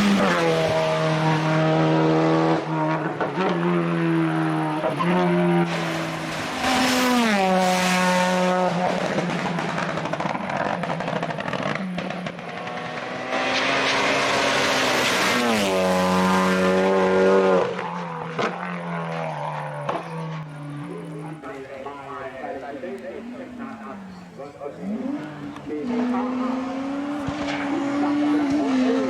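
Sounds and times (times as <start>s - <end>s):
race car engine at high revs: 0.0s - 29.0s.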